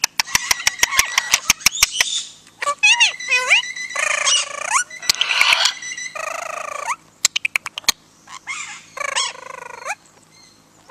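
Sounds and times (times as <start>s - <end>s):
parrot calling: 0.2s - 10.9s.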